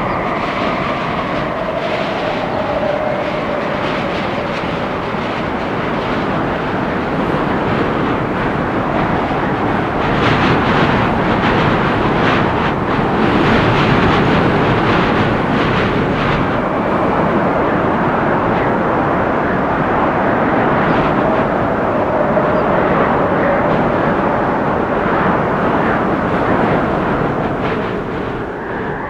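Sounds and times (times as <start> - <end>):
wind rushing through trees: 0.0 - 29.0.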